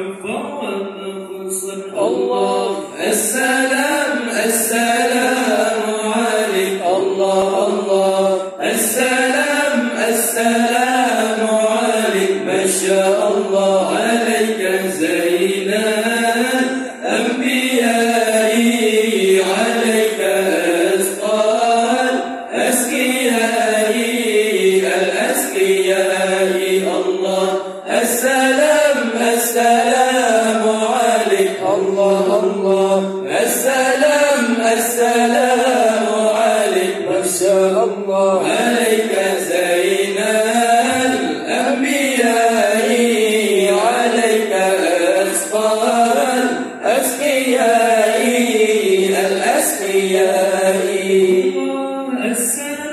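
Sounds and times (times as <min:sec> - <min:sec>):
men chanting in unison: 0:00.0 - 0:52.9.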